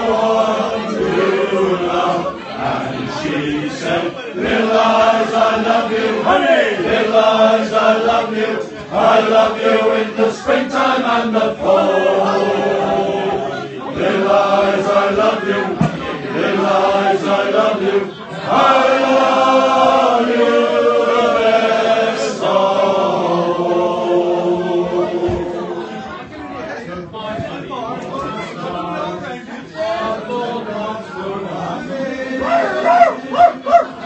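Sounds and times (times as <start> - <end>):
crowd singing together: 0.0 - 34.0.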